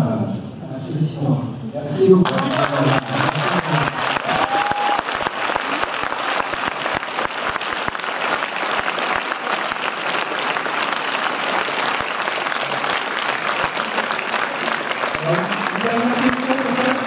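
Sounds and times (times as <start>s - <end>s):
audience applauding: 2.2s - 17.0s.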